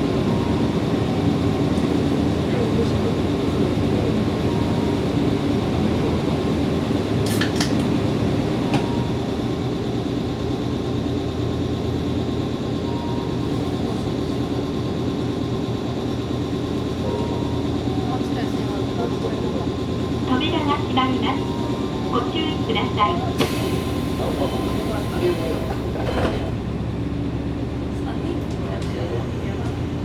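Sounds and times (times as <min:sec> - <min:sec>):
electric train running noise: 0:00.0 - 0:30.0.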